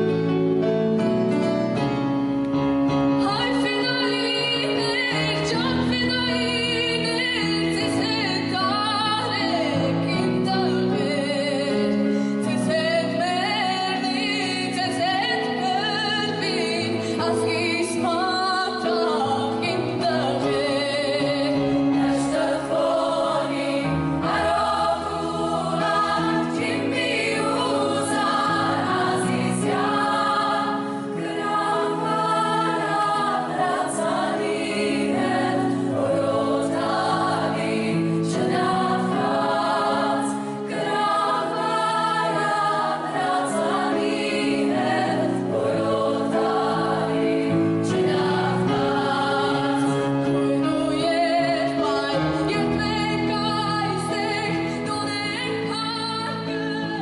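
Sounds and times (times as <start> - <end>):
choir singing: 3.2 - 57.0.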